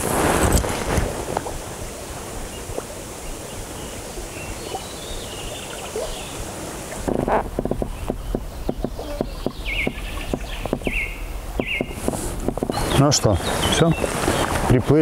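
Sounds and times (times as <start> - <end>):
river current rushing: 0.0 - 8.6, 9.2 - 15.0.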